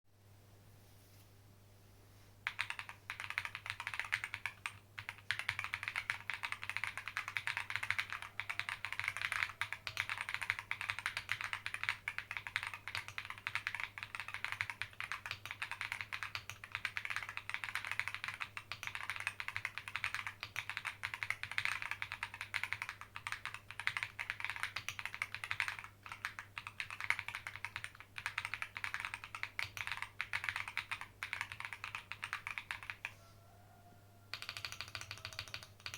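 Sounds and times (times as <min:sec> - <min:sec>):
mechanical keyboard typing: 0:02.4 - 0:33.1, 0:34.3 - 0:35.9.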